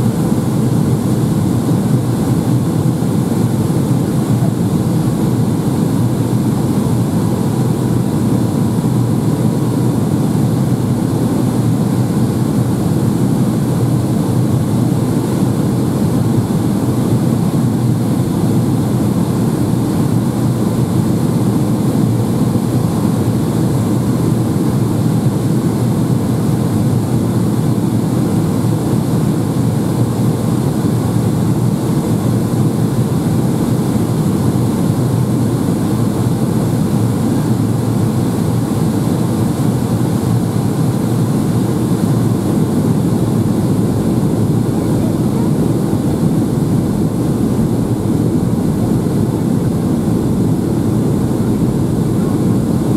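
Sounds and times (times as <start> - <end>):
aircraft engine and airflow rumble: 0.0 - 52.9.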